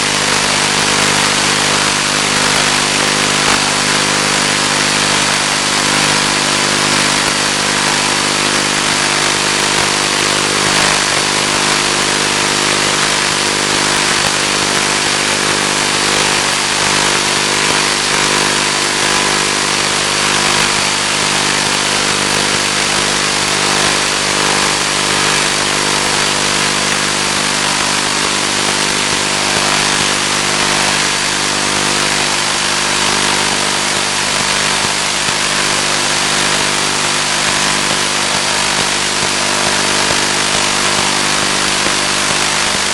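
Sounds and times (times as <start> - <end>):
electric motor and propeller humming: 0.0 - 42.9.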